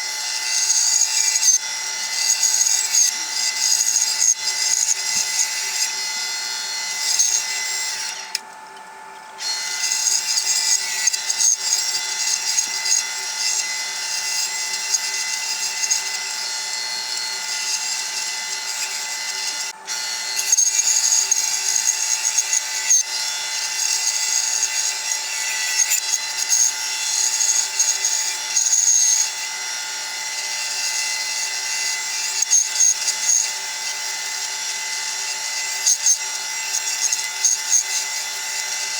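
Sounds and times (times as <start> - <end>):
bandsaw cutting wood: 0.0 - 8.6, 9.4 - 38.9.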